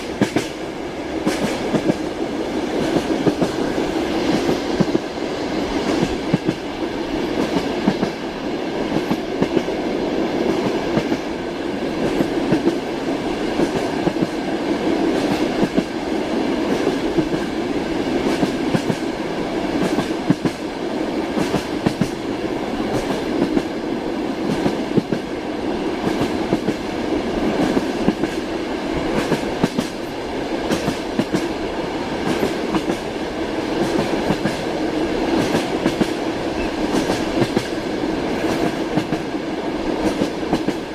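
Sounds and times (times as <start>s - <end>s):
train wheels clacking: 0.0s - 0.6s, 1.2s - 8.2s, 10.4s - 16.0s, 16.6s - 19.1s, 19.7s - 23.8s, 24.4s - 25.3s, 25.9s - 40.9s
train rumble: 0.0s - 40.9s.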